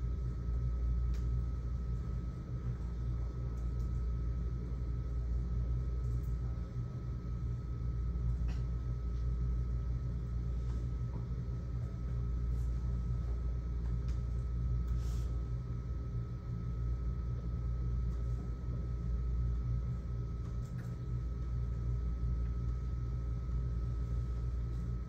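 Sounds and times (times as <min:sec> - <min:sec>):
faint steady whine: 0:00.0 - 0:25.0
low fan hum: 0:00.0 - 0:25.0.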